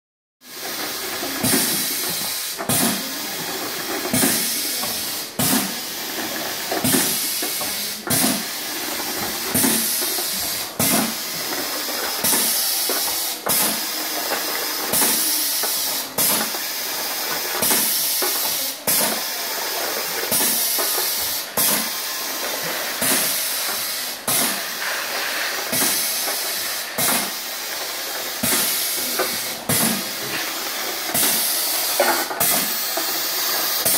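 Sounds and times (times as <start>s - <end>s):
air cylinder clack: 0.8s - 19.4s, 20.0s - 33.9s.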